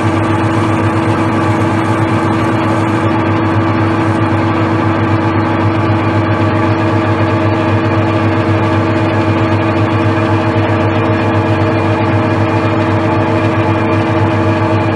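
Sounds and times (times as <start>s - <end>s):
metal lathe running: 0.0s - 14.9s.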